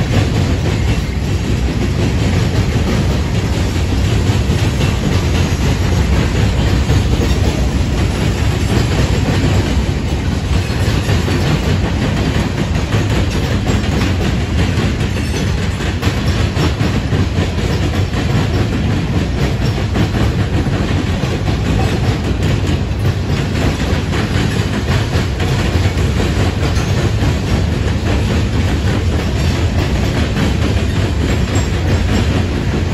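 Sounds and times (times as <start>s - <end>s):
train wheels rumbling on rails: 0.0s - 32.9s
wheels clacking over rail joints: 0.0s - 32.9s.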